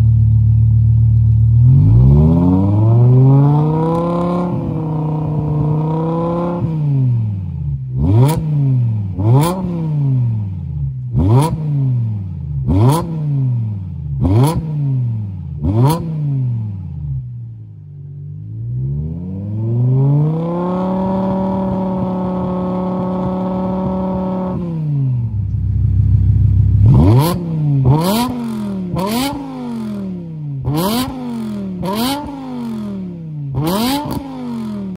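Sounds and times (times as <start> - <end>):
car engine revving: 1.2 - 35.0.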